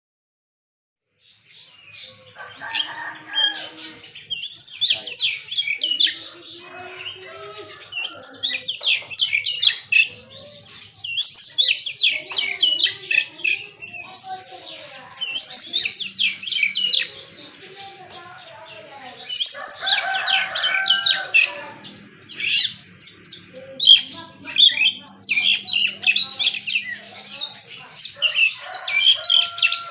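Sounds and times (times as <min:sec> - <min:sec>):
faint calls of other birds: 0:01.1 - 0:29.9.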